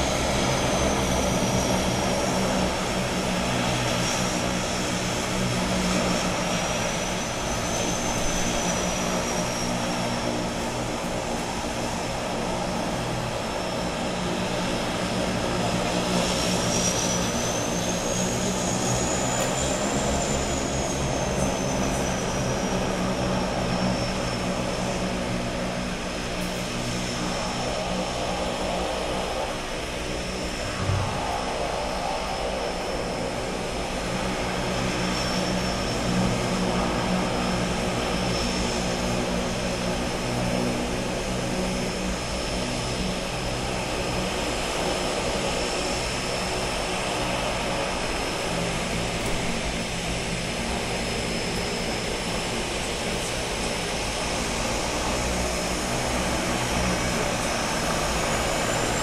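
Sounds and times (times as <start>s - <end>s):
turboprop engines running: 0.0s - 59.0s.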